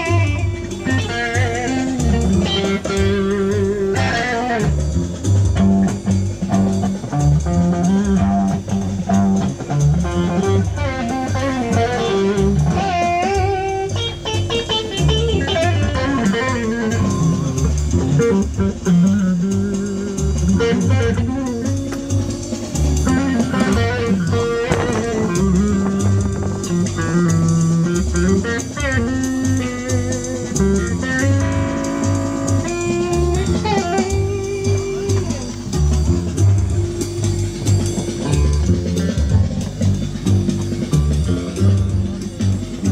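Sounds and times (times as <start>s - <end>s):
bass guitar: 0.0s - 42.9s
drum kit: 0.0s - 42.9s
electric guitar lead lines: 0.0s - 42.9s.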